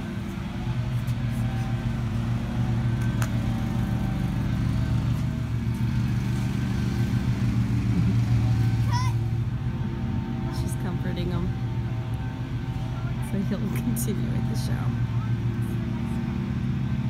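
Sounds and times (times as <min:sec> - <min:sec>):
lawn mower engine droning: 0:00.0 - 0:17.0.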